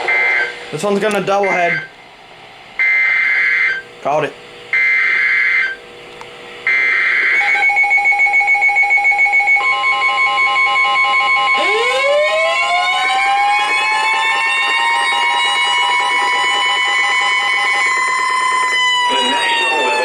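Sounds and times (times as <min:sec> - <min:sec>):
rapidly pulsing alarm beep: 0:00.0 - 0:00.6, 0:01.3 - 0:02.0, 0:02.8 - 0:03.9, 0:04.7 - 0:05.8, 0:06.7 - 0:20.0
siren winding up: 0:00.0 - 0:01.9, 0:02.8 - 0:03.8, 0:04.8 - 0:05.8, 0:06.6 - 0:20.0.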